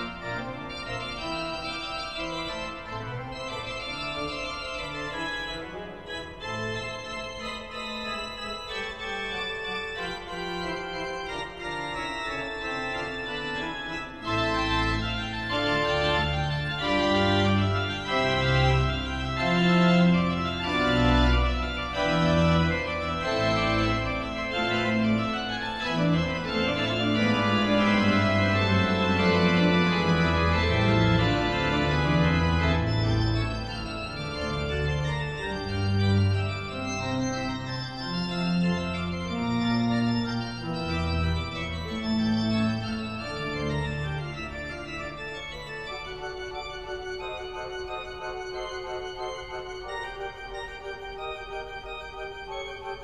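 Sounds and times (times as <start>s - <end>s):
held keyboard notes: 0.0s - 53.0s.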